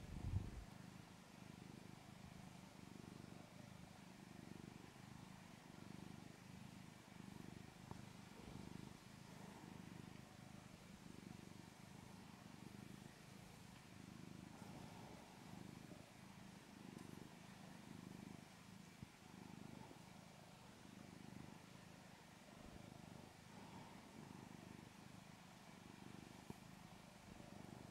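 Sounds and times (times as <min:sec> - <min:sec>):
cat purring: 0:00.0 - 0:27.9.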